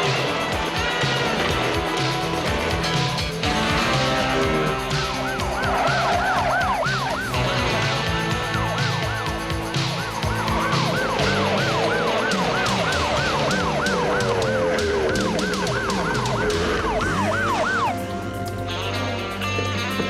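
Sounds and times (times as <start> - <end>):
background music: 0.0 - 20.0
emergency vehicle siren: 0.0 - 20.0.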